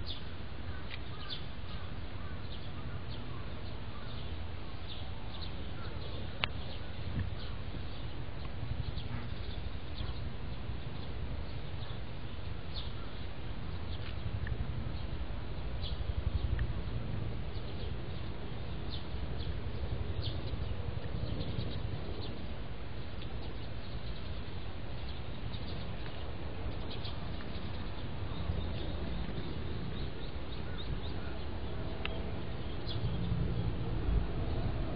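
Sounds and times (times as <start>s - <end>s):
steady low rumble: 3.0s - 34.9s.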